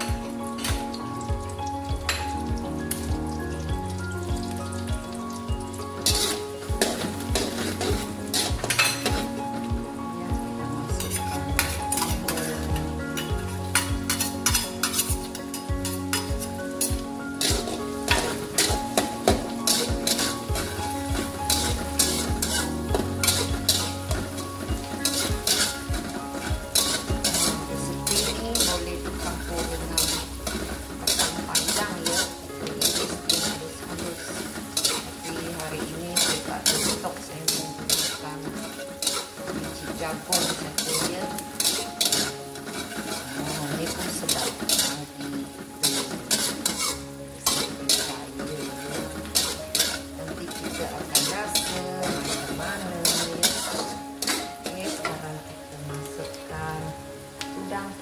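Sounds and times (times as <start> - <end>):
garlic sizzling in oil: 0.0 - 58.0
metal spatula scraping a wok: 6.0 - 9.6, 11.0 - 55.2.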